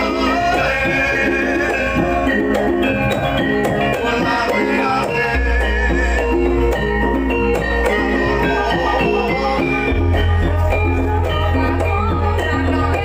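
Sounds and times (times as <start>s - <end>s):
gamelan music: 0.0s - 13.0s.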